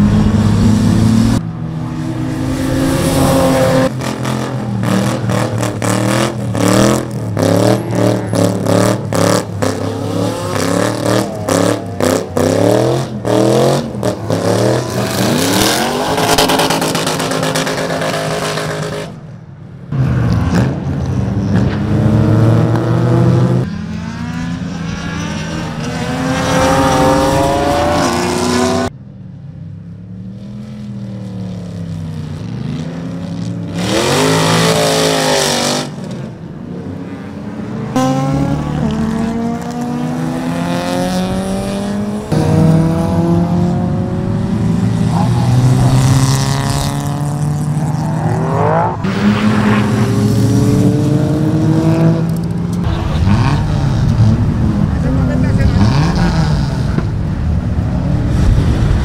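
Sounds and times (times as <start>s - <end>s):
race car engines revving past: 0.0s - 19.3s, 19.9s - 29.0s, 29.9s - 59.0s.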